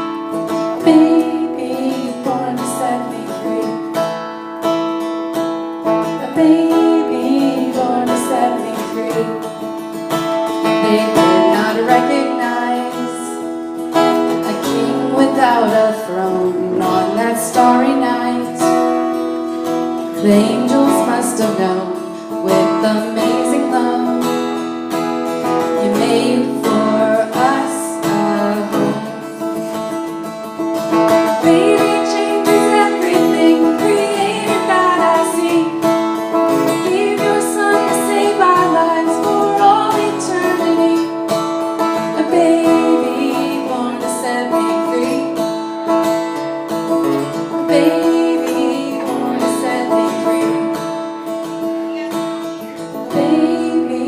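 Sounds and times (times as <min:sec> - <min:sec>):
person singing: 0:00.0 - 0:04.3, 0:05.9 - 0:19.0, 0:20.0 - 0:24.7, 0:25.5 - 0:30.1, 0:31.1 - 0:45.7, 0:46.9 - 0:54.0
acoustic guitar playing: 0:00.0 - 0:54.0.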